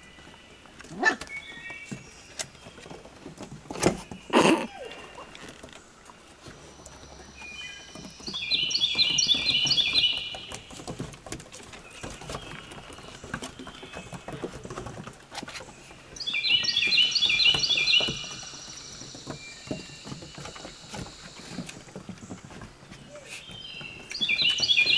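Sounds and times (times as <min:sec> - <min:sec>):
songbird singing: 0:00.0 - 0:24.9
paws scrabbling on wooden deck: 0:00.1 - 0:24.9.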